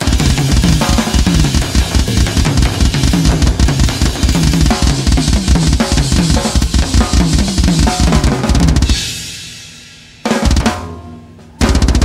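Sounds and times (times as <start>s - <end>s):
fast metal drumming: 0.0s - 9.4s, 10.3s - 10.9s, 11.6s - 12.0s.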